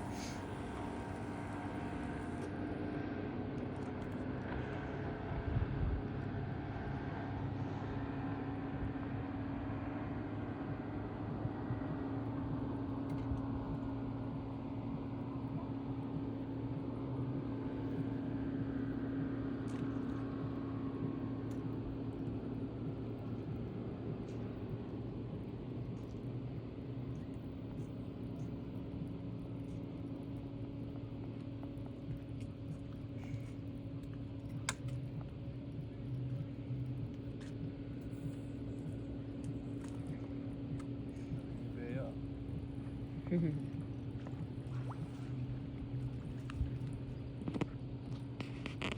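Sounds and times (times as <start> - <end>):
boat motor humming: 0.0 - 48.9.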